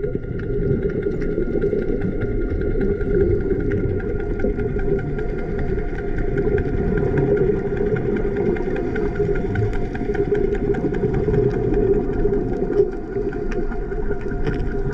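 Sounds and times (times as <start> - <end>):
crackle of small clicks: 0.0 - 14.9
underwater boat engine drone: 0.0 - 14.9.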